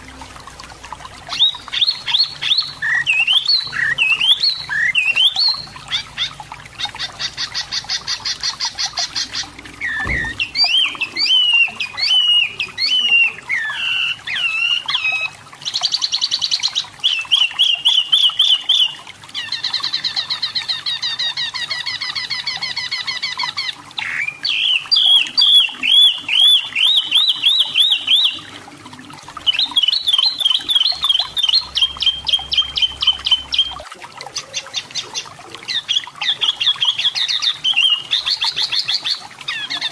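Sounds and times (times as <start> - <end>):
bird singing trills: 1.3 - 28.5, 29.4 - 33.8, 34.4 - 39.9.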